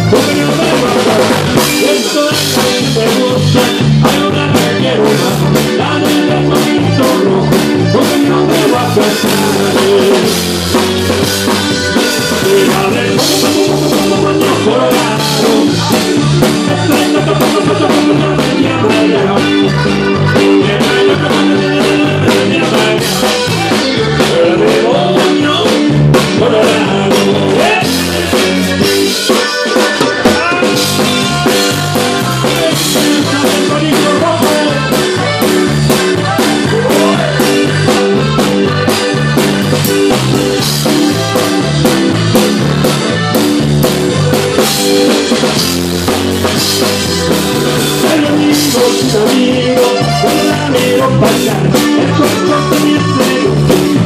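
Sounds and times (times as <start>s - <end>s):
accordion: 0.0s - 54.0s
bass: 0.0s - 54.0s
drum kit: 0.0s - 54.0s.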